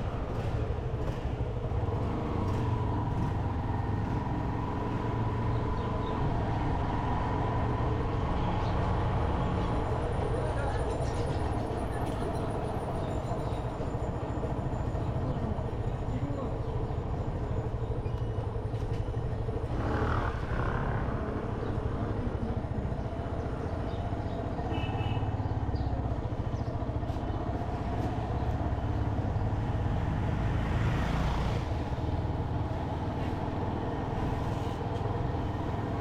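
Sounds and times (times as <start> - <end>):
road and wind noise: 0.0 - 36.0.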